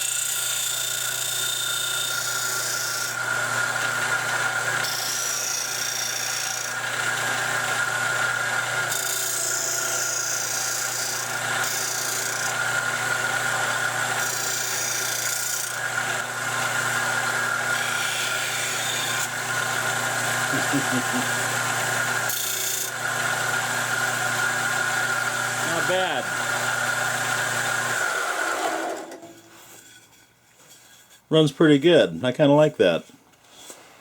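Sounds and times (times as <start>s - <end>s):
sander motor hum: 2.1s - 29.4s.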